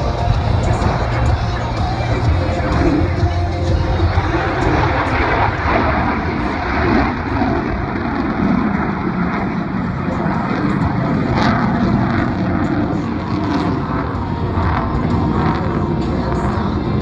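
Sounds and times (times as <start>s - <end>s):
loud jet engine noise: 0.0s - 17.0s.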